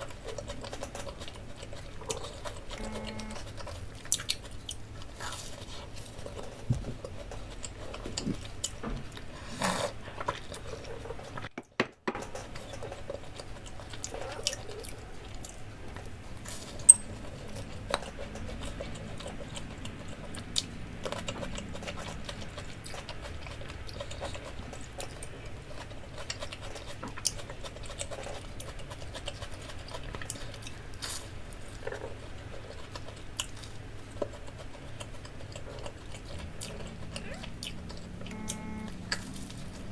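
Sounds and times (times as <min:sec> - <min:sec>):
chewing: 0:00.0 - 0:11.5, 0:12.2 - 0:39.9.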